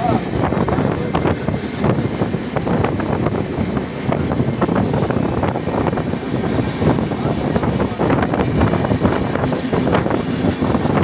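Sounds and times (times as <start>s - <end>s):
passing train wheel noise: 0.0s - 11.0s
train wheels on rails: 0.0s - 11.0s
wind on microphone: 0.0s - 11.0s.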